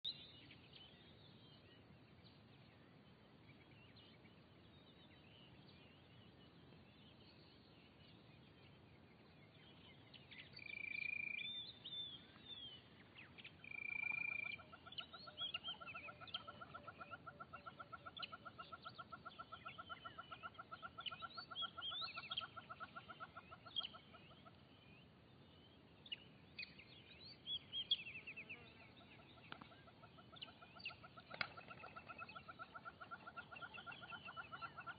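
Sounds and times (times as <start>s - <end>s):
bird chirps: 0.0s - 34.9s.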